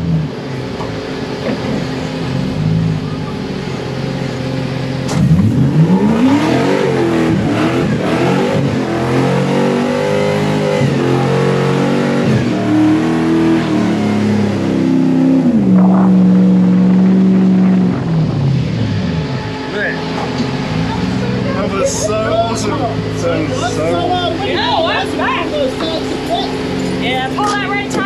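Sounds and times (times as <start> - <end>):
buggy engine accelerating: 0.0 - 28.0.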